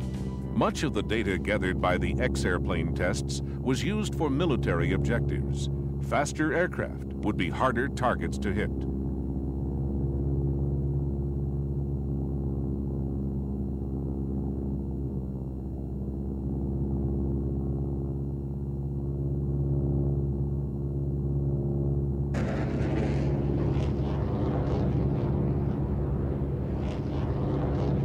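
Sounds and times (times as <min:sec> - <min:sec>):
low drone of held tones: 0:00.0 - 0:28.0.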